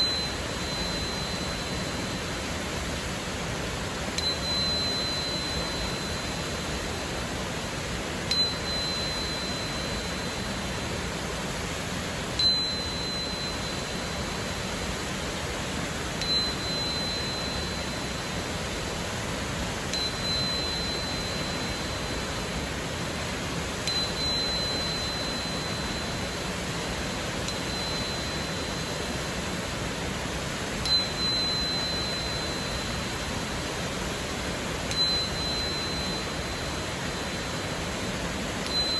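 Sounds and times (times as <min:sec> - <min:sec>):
tuning crystal ringing tone: 0:00.0 - 0:38.9.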